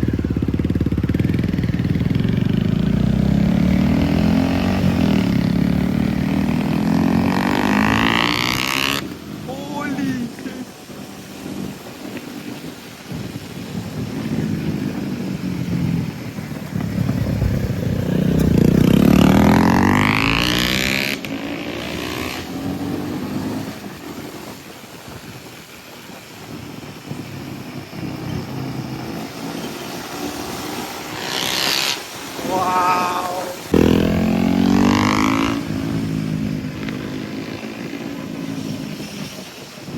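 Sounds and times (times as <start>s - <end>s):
motorcycle engine revving: 0.0s - 24.8s, 26.5s - 39.3s.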